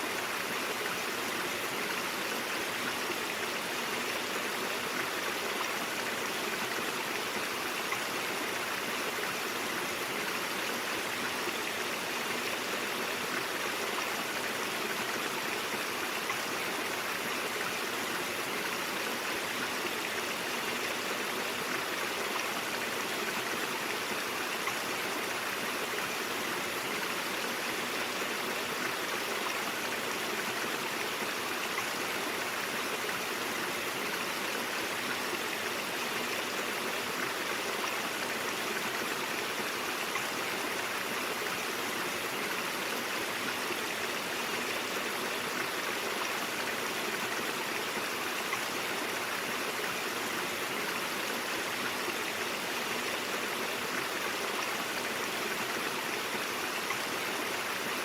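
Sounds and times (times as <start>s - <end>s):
brook water flowing: 0.0s - 58.0s.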